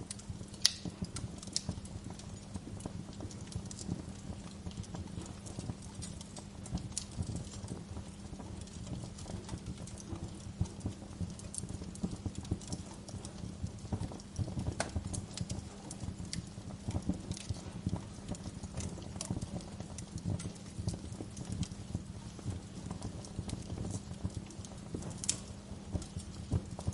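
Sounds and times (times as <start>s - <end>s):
low rumble of fire: 0.0s - 26.9s
wood fire crackling: 0.0s - 26.9s.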